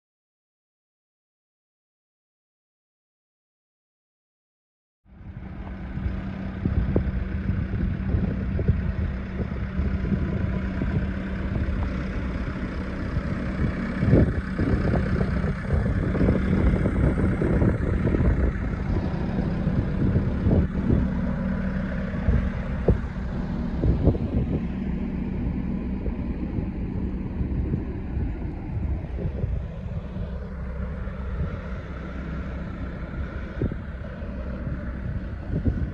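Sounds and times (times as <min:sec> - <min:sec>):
diesel engine idling: 0:05.1 - 0:35.9
wind buffeting microphone: 0:05.1 - 0:35.9.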